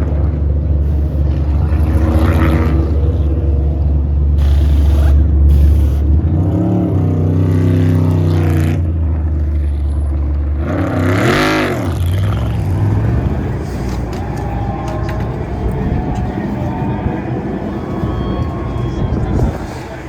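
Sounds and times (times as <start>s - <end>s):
race car engines droning: 0.0s - 20.0s
race cars passing: 0.0s - 20.0s.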